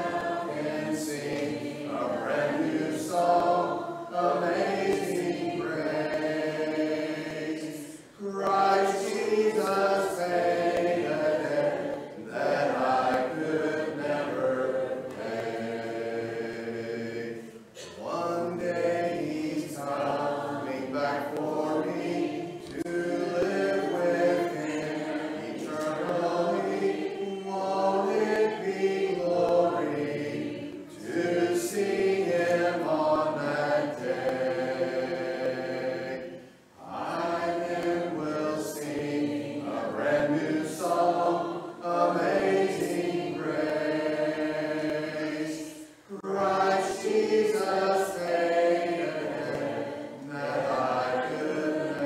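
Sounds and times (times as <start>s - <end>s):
congregation singing a hymn: 0.0s - 52.0s.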